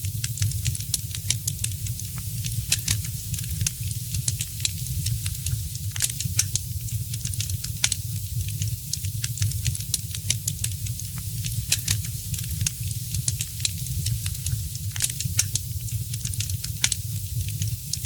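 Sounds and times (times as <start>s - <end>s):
fire hiss and low rumble: 0.0s - 18.0s
wood fire pops and snaps: 0.2s - 18.0s.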